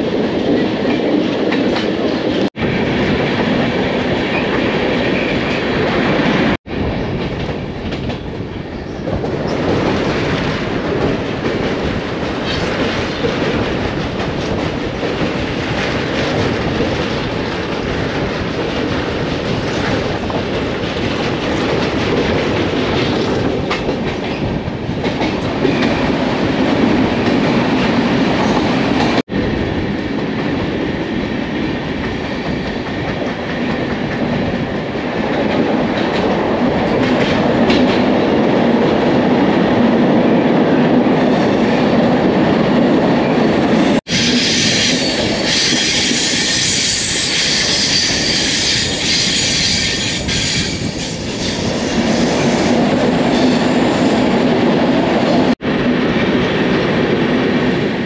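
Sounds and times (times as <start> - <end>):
clickety-clack over rail joints: 0.0 - 29.3, 29.9 - 55.6
train wheels rumbling on rails: 0.0 - 58.0.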